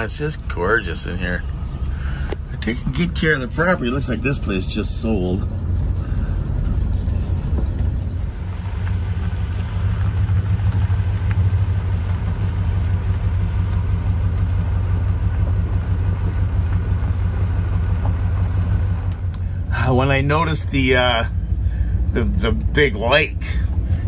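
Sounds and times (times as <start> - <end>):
vehicle driving on gravel: 0.0 - 24.0.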